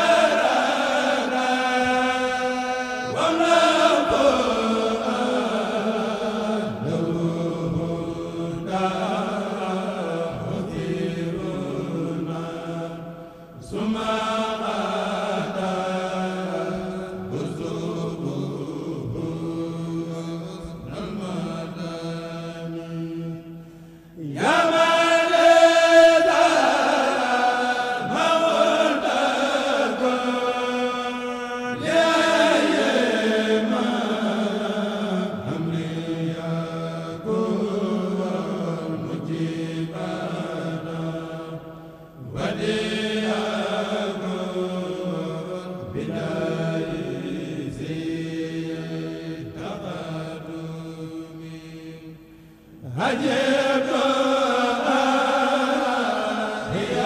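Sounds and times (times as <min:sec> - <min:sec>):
men chanting through microphones: 0:00.0 - 0:52.2, 0:52.8 - 0:57.0.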